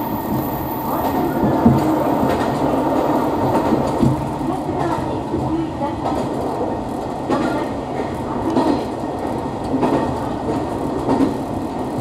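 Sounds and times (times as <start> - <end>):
diesel railcar engine and wheels rumbling: 0.0 - 12.0.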